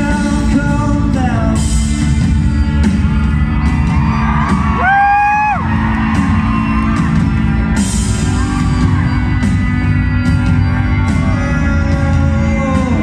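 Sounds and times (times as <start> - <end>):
live band music: 0.0 - 13.0.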